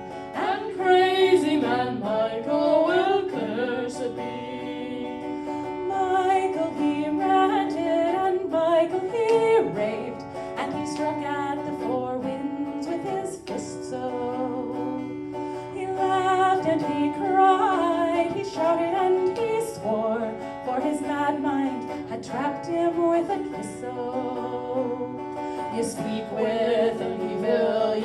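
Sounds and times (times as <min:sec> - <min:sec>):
acoustic guitar accompaniment: 0:00.0 - 0:28.0.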